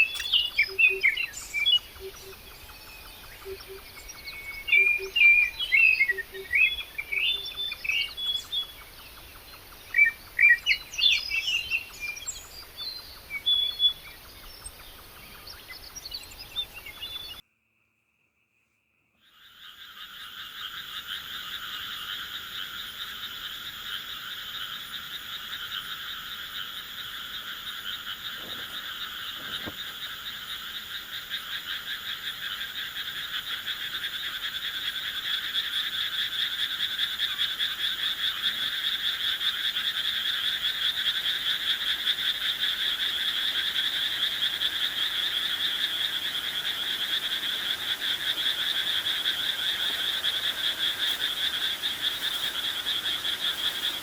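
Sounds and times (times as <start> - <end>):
frogs trilling: 0.0 - 17.4, 19.2 - 54.0.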